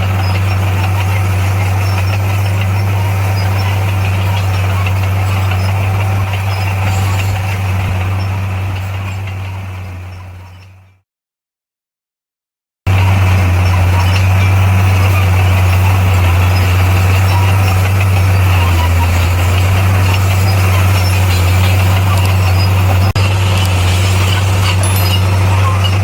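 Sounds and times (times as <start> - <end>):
clatter: 0.0 - 10.9, 12.9 - 26.0
bulldozer diesel engine droning: 0.0 - 11.0, 12.9 - 26.0.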